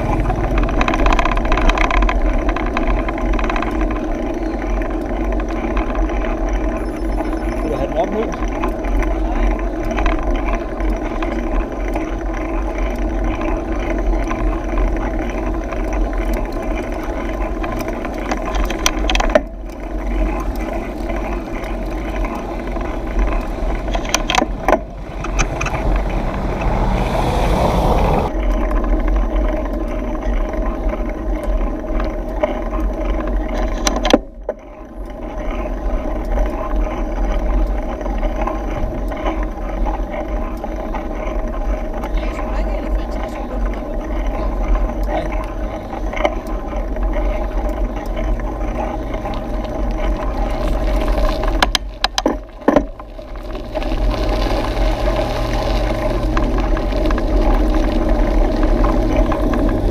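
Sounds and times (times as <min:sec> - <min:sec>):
bike knocks and rattles: 0:00.0 - 0:26.9, 0:28.3 - 0:59.9
bike rolling on concrete: 0:00.0 - 0:59.9.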